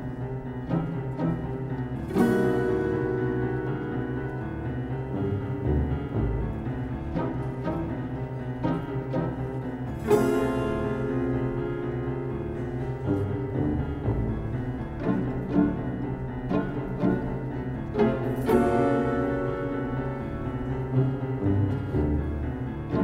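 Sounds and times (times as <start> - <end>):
slow instrumental music: 0.0 - 23.0.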